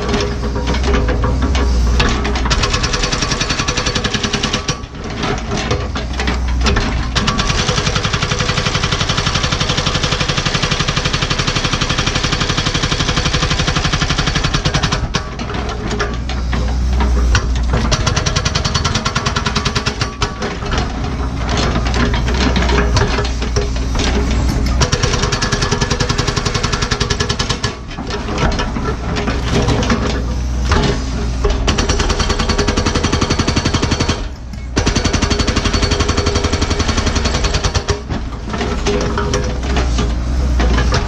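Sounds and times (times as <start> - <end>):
excavator diesel engine running: 0.0 - 41.0
hydraulic hammer pounding rock: 0.0 - 41.0.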